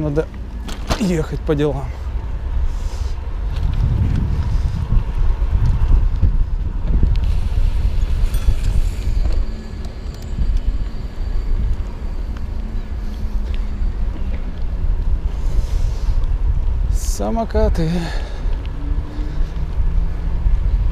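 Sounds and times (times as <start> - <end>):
wind buffeting microphone: 1.2 - 20.9.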